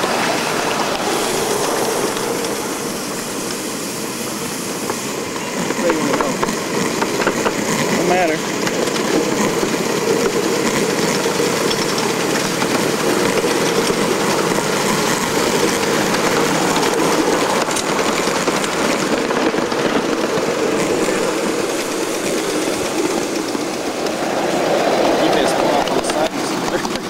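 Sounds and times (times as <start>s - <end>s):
miniature steam locomotive running: 0.0s - 27.0s.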